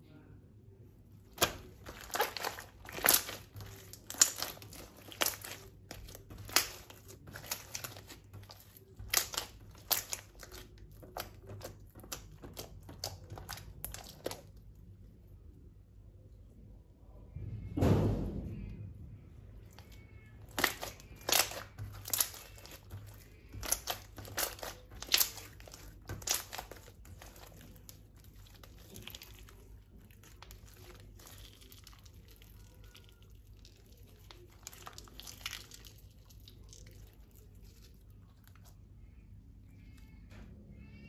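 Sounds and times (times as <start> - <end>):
slime squeezed and crackling: 1.2 - 14.7, 19.6 - 39.1.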